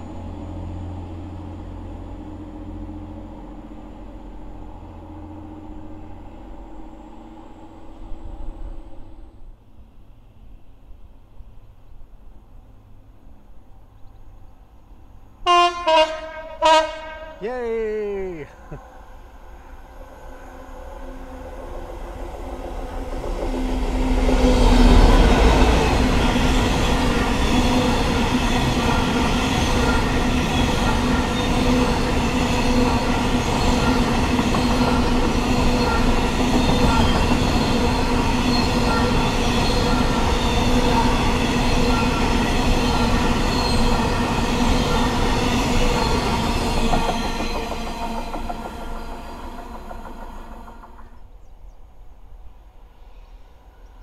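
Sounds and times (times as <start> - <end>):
diesel locomotive engine passing: 0.0 - 54.0.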